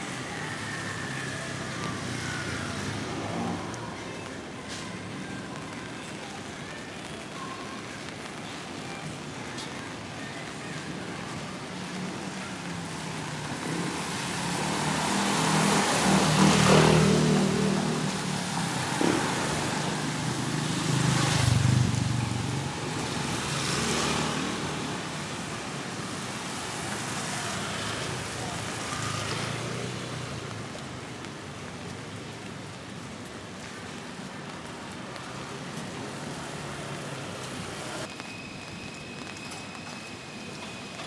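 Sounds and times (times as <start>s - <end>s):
vehicles passing on wet road: 0.0s - 41.0s
rain hiss: 5.0s - 39.2s.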